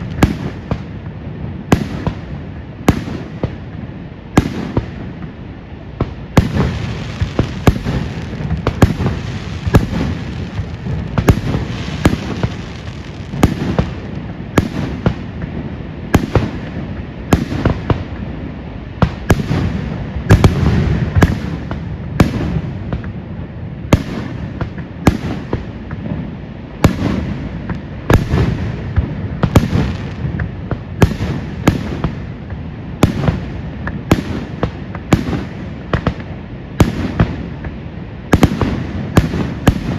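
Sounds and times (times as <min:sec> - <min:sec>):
fireworks bursting with sharp bangs: 0:00.0 - 0:39.9
low rumble of booms: 0:00.0 - 0:39.9.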